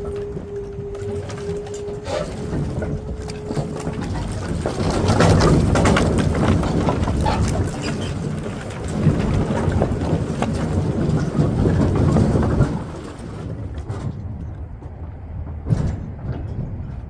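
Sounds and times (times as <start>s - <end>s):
firewood logs tumbling and knocking: 0.0s - 17.0s.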